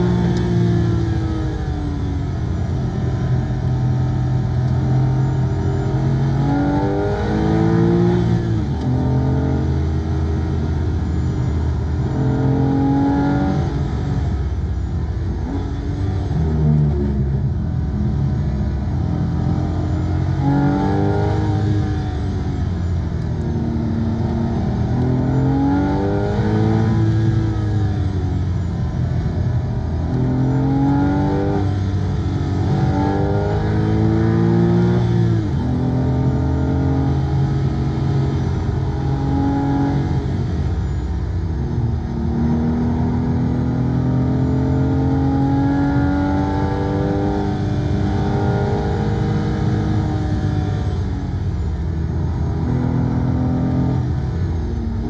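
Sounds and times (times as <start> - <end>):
car engine revving: 0.0 - 55.0
road and tyre noise: 0.0 - 55.0.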